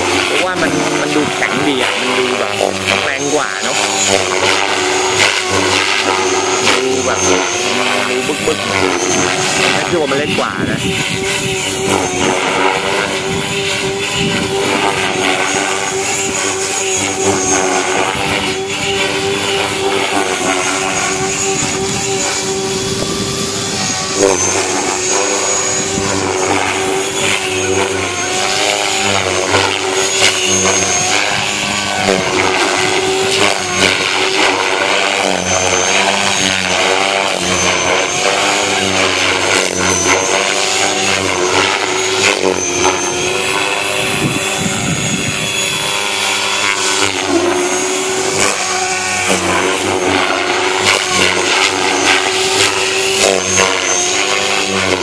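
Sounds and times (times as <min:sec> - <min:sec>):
rc helicopter motor whine: 0:00.0 - 0:55.0
rotor blades: 0:00.0 - 0:55.0.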